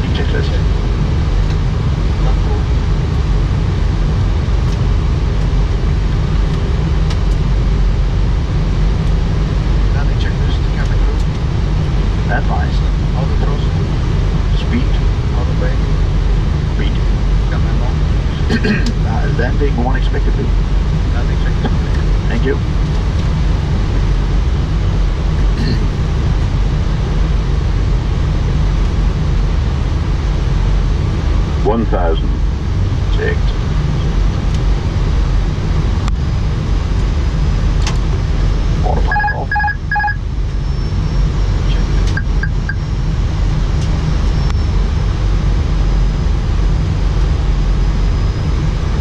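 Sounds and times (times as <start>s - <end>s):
cockpit airflow and engine rumble: 0.0s - 49.0s.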